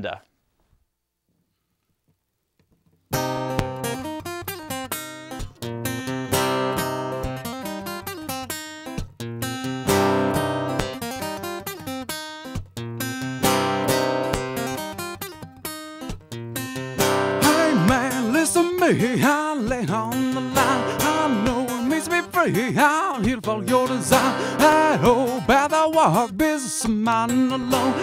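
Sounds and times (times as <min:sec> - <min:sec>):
acoustic guitar strumming: 0:03.1 - 0:28.0.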